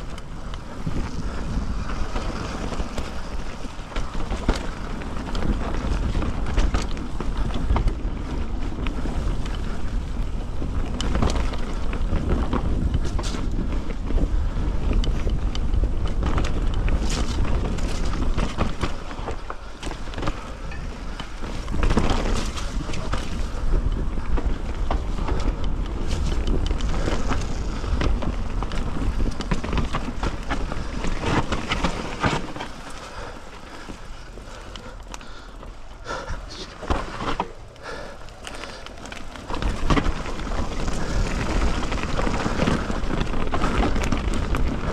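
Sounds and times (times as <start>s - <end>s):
bike rattling over bumps: 0.0s - 44.9s
bike tyre rumble: 0.0s - 44.9s
wind on microphone: 0.0s - 44.9s.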